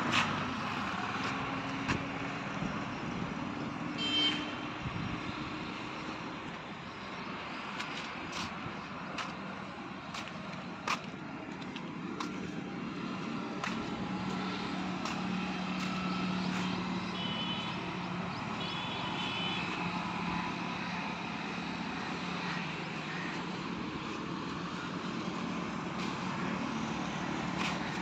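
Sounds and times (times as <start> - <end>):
low engine hum: 0.0 - 28.0
outdoor background noise: 0.0 - 28.0.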